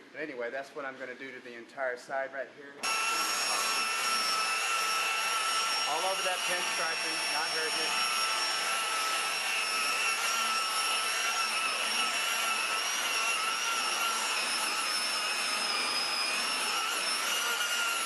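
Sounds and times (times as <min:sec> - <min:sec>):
high-pitched machine whine: 0:02.8 - 0:18.0.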